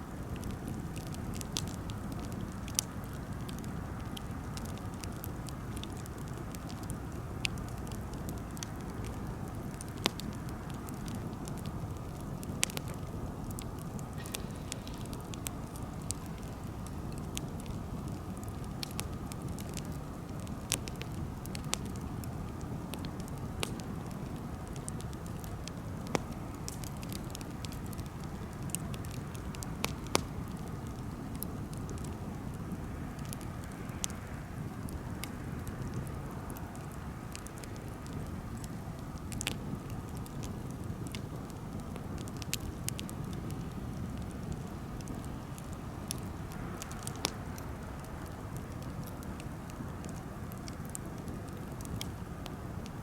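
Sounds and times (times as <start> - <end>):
campfire flame rushing: 0.0 - 53.0
fire crackling and popping: 0.0 - 53.0.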